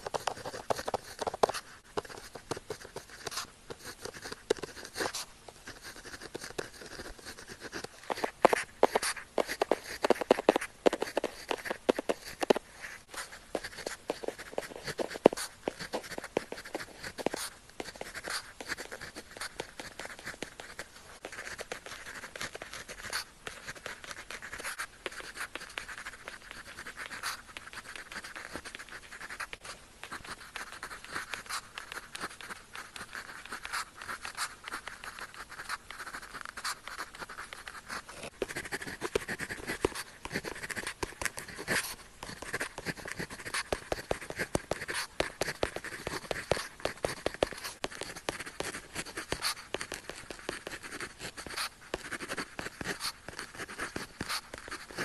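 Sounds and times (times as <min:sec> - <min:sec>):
pen nib tapping: 0:00.0 - 0:12.6, 0:13.2 - 0:55.0
pen scratching on paper: 0:00.0 - 0:55.0.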